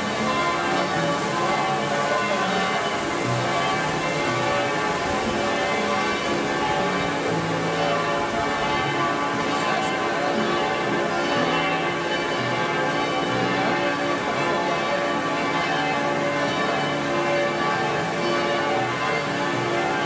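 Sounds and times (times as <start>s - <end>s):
bells ringing in a peal: 0.0s - 20.0s.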